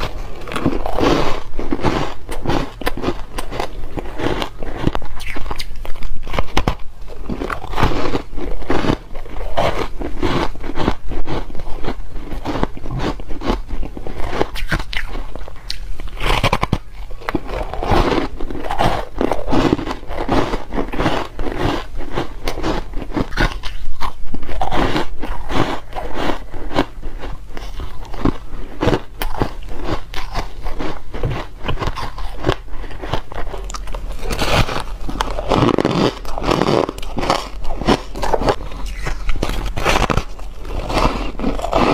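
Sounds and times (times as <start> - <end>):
person crunching ice: 0.0 - 41.9.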